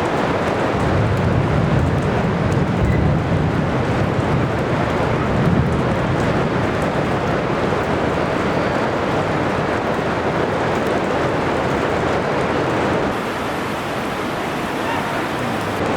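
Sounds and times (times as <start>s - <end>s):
heavy rain: 0.0s - 15.9s
thunder rumbling: 0.2s - 10.0s, 12.9s - 15.9s.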